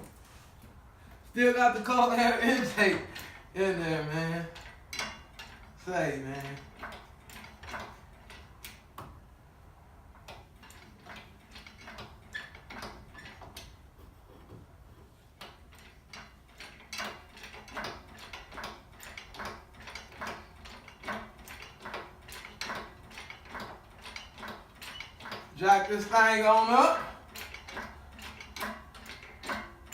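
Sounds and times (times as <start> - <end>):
engine hoist clicks and knocks: 1.8 - 29.9.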